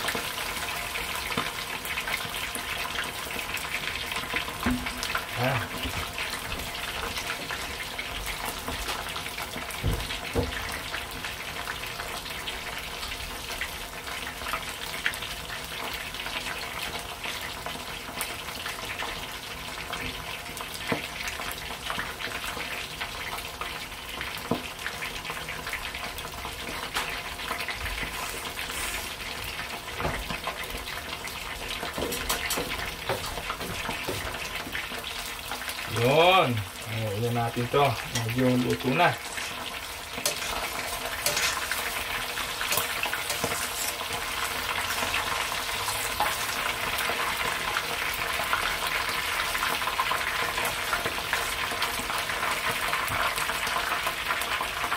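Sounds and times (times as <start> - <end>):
food deep-frying in hot oil: 0.0 - 54.9.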